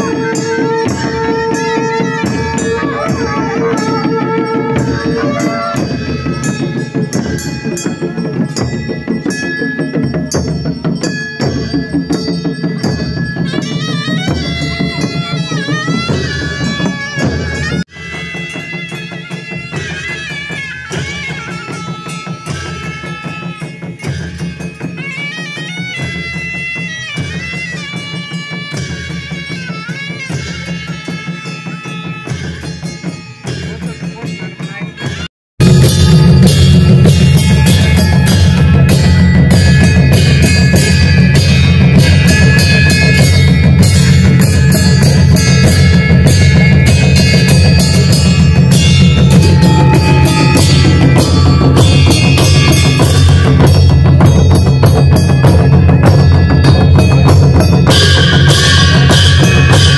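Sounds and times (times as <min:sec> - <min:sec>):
drums beating: 0:00.0 - 0:59.9
reed pipe melody: 0:00.0 - 0:59.9.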